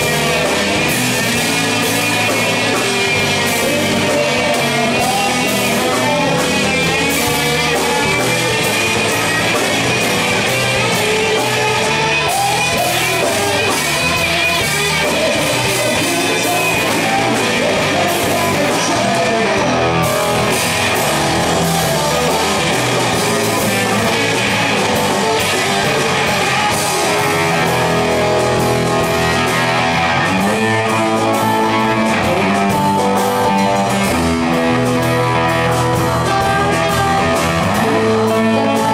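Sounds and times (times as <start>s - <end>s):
drums: 0.0s - 38.9s
electric and acoustic guitars: 0.0s - 38.9s
person singing: 0.0s - 38.9s.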